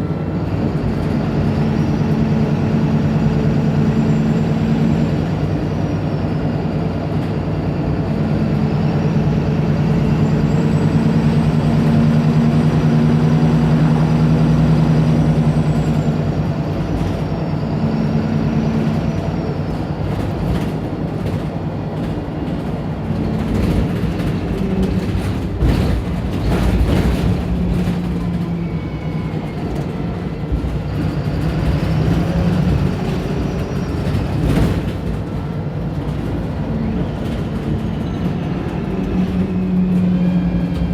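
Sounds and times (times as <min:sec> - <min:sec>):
bus diesel engine accelerating: 0:00.0 - 0:40.9.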